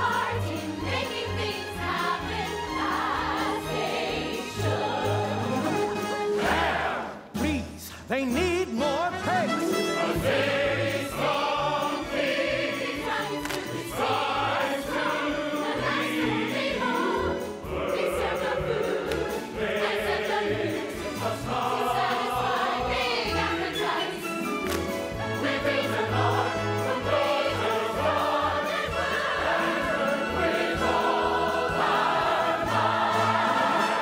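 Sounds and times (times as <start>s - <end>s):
chorus singing with accompaniment: 0.0s - 7.4s, 9.2s - 34.0s.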